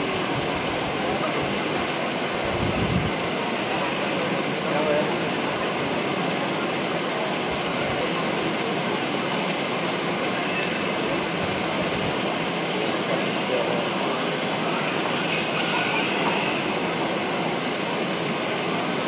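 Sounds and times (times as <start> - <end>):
crowd murmur: 0.0 - 19.0.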